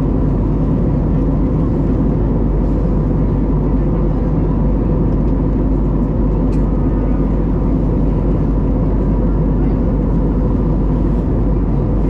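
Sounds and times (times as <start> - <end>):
jet engine cabin roar: 0.0 - 12.0.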